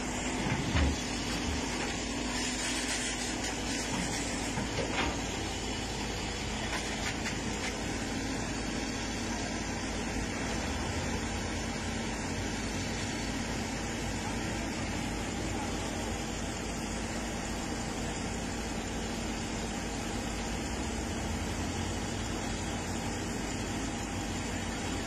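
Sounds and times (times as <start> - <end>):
diesel machinery droning: 0.0 - 25.0.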